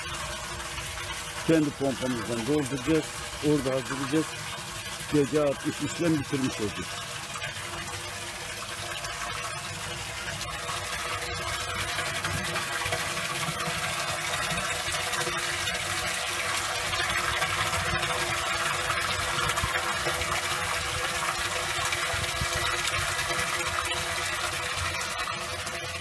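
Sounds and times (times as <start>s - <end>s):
water pouring into tank: 0.0s - 26.0s.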